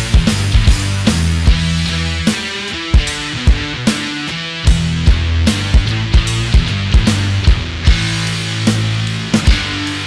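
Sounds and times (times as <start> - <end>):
rock music with drum beat: 0.0 - 10.0.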